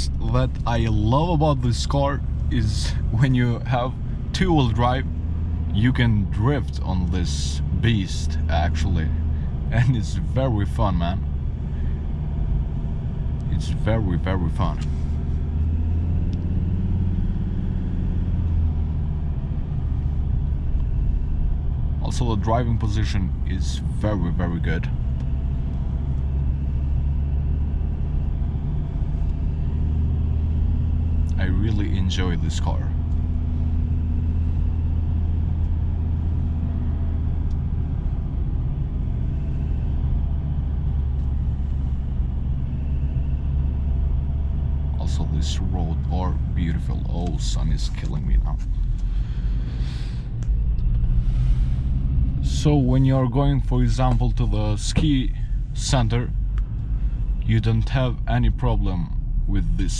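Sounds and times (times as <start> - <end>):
diesel engine drone: 0.0 - 59.9
road rumble: 0.0 - 59.9.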